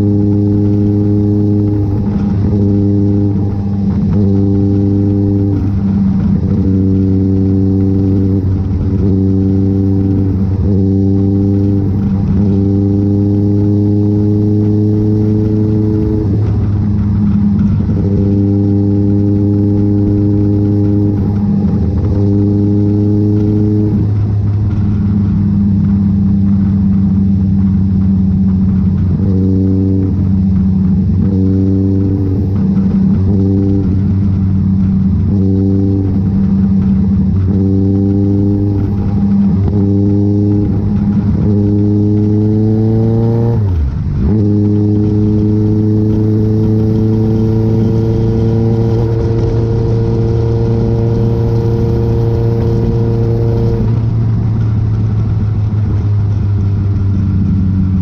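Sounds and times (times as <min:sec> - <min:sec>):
engine revving: 0:00.0 - 0:58.0
low engine running: 0:00.0 - 0:58.0.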